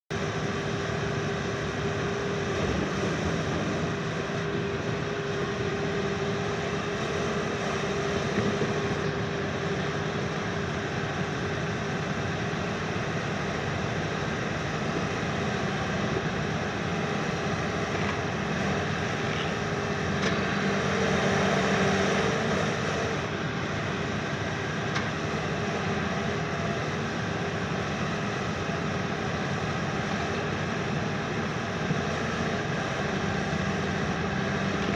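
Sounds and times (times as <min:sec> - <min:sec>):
excavator diesel engine running: 0:00.1 - 0:34.9
steady whine: 0:00.1 - 0:34.9.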